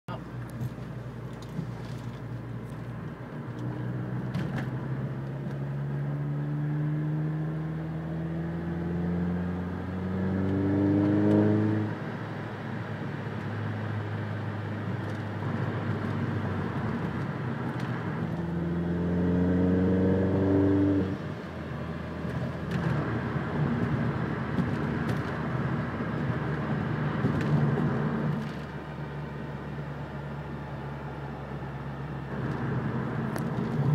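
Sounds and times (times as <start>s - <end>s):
car engine revving with whine: 0.1s - 33.9s.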